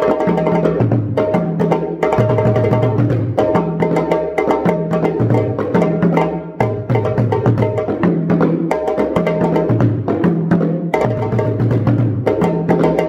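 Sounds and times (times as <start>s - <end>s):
djembe played by hand: 0.0s - 13.0s
bass drums beaten with sticks: 0.3s - 13.0s.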